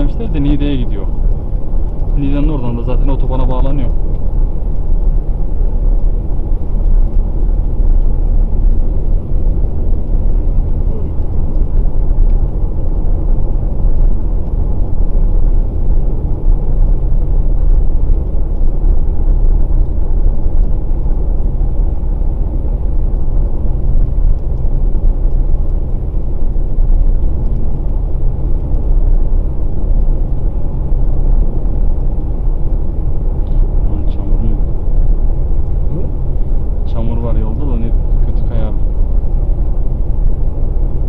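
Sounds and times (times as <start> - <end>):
car cabin road rumble: 0.0 - 41.0.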